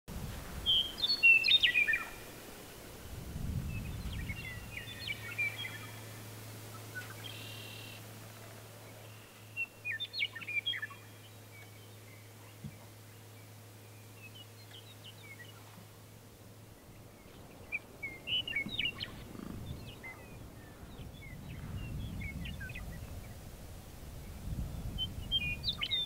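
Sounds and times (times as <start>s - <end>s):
faint low rumble: 0.1s - 26.0s
small birds chirping: 0.6s - 2.8s, 3.4s - 26.0s.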